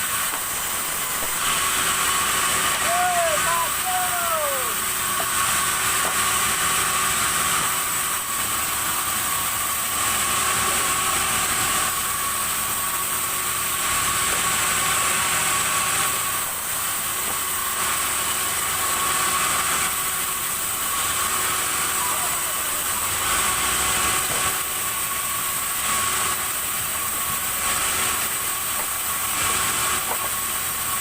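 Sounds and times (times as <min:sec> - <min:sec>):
sawmill saw cutting timber: 0:00.0 - 0:31.0.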